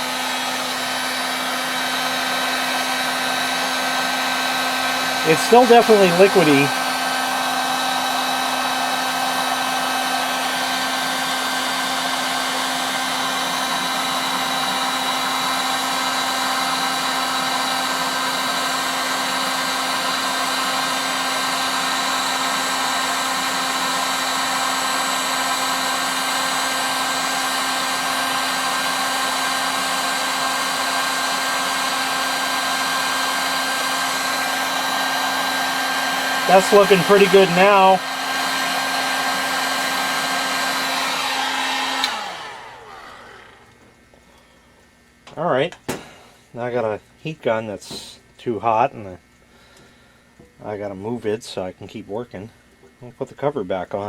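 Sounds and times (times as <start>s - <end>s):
heat gun fan whirring: 0.0s - 46.4s.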